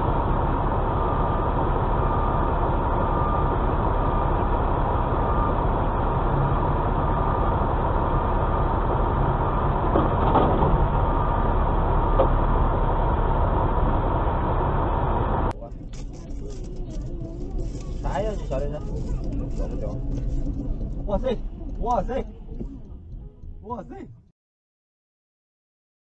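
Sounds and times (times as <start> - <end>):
diesel engine low rumble: 0.0 - 24.3.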